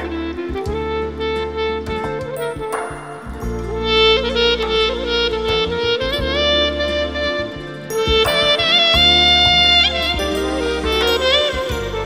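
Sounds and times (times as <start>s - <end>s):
bass line and beat: 0.0s - 12.0s
clarinets playing dance melody: 0.0s - 12.0s
keyboard accompaniment: 0.0s - 12.0s.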